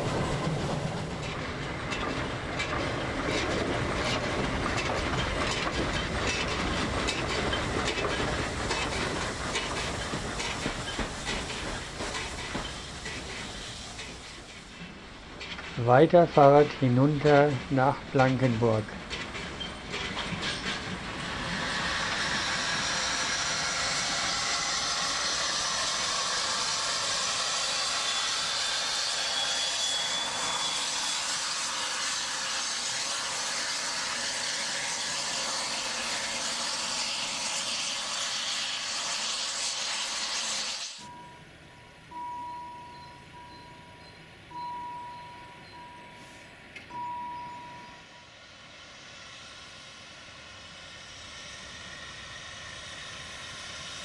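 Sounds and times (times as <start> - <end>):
train wheels rushing on rails: 0.0 - 42.2, 42.8 - 54.0.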